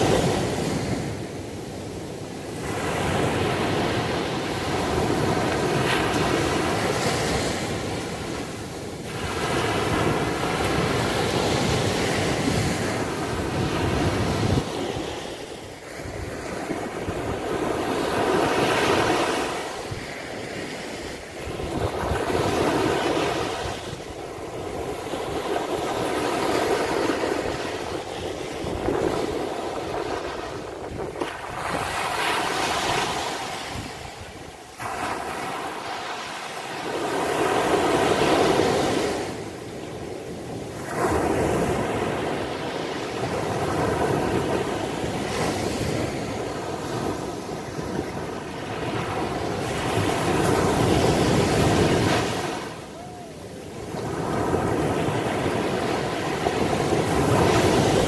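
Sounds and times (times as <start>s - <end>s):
waves breaking on sandy beach: 0.0s - 58.0s.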